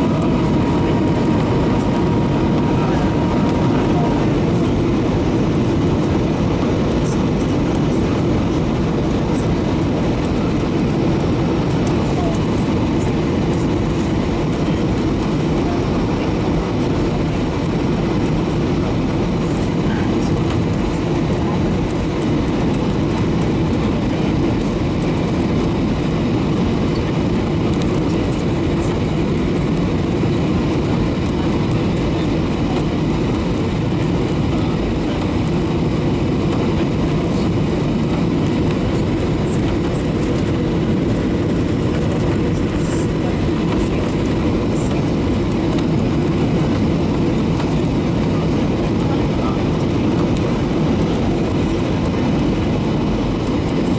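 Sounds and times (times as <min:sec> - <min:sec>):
jet engine rumble: 0:00.0 - 0:53.9.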